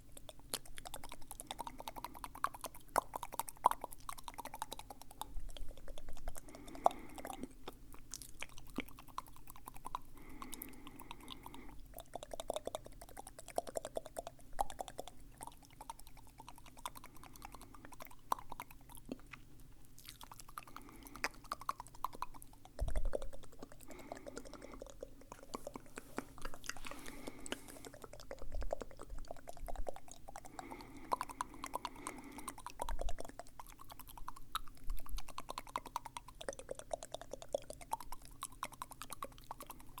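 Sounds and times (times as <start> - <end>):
wet mouth clicks and smacks: 0.0 - 40.0.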